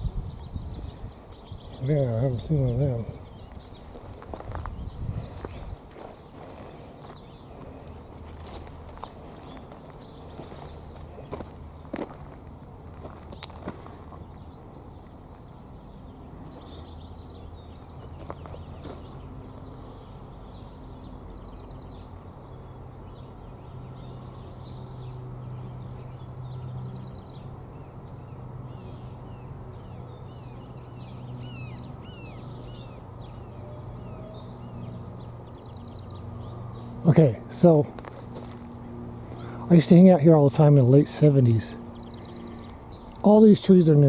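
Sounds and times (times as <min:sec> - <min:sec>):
small birds chirping: 0:00.0 - 0:44.0
steady low hum: 0:00.0 - 0:44.0.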